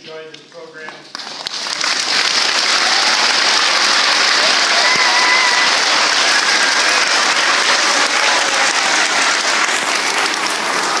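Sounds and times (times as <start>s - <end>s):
children applauding: 1.1s - 11.0s.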